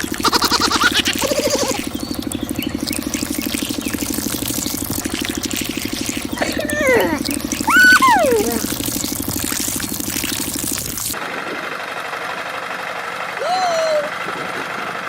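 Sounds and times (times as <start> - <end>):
small model truck engine running: 0.0 - 15.0.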